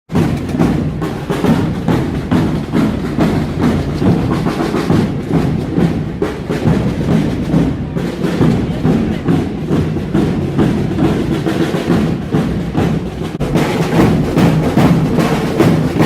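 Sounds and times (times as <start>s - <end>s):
bass drum beats: 0.1s - 16.0s
snare drum strokes: 0.1s - 16.0s.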